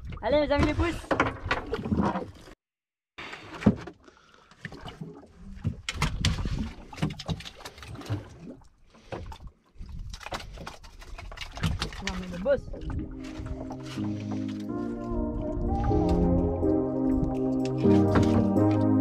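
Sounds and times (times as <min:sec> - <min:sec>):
water: 0:00.0 - 0:02.6, 0:03.2 - 0:19.0
wind: 0:00.0 - 0:02.6, 0:03.2 - 0:18.8.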